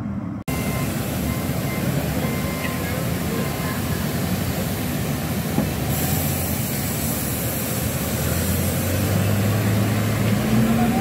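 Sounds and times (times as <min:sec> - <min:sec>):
forklift engine running: 0:00.0 - 0:11.0
high hiss: 0:00.8 - 0:09.8.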